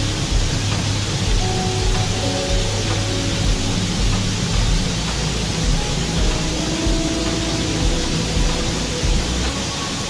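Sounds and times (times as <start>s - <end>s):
ambient meditation music: 0.0s - 10.0s
waterfall rushing: 0.0s - 10.0s.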